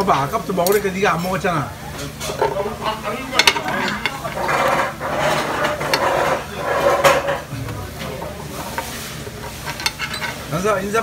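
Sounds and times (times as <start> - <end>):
metal spoons scraping on griddle: 0.1 - 7.5, 8.4 - 11.0.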